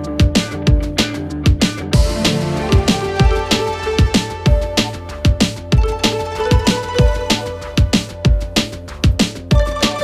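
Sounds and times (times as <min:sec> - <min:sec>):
electronic music with kick drums: 0:00.0 - 0:10.0.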